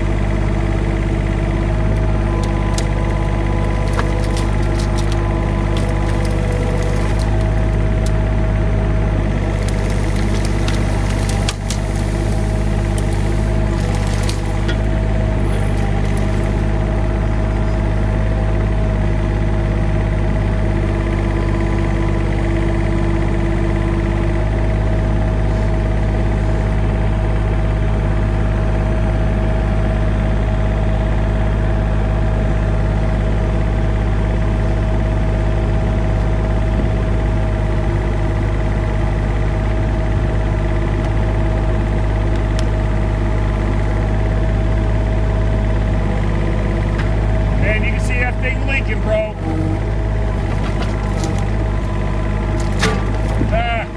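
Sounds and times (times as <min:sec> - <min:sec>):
machine engine running: 0:00.0 - 0:53.9.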